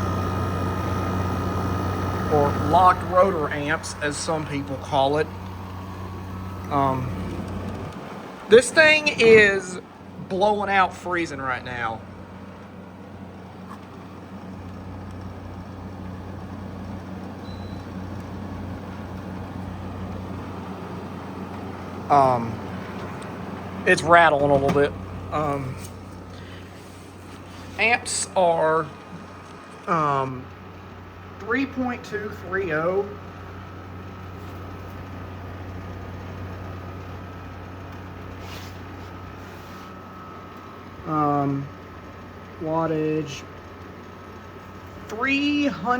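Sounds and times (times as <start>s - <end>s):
air conditioner compressor hum: 0.0s - 45.9s
fan rushing: 0.0s - 45.9s.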